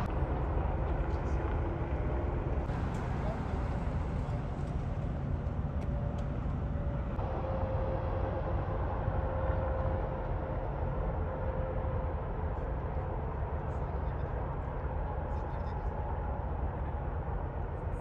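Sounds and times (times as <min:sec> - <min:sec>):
faint steady whine: 0:00.0 - 0:18.0
highway traffic rumble: 0:00.0 - 0:18.0.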